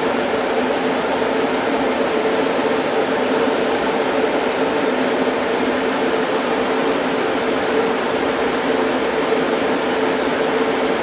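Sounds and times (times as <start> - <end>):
cooling fans rushing air: 0.0 - 11.0.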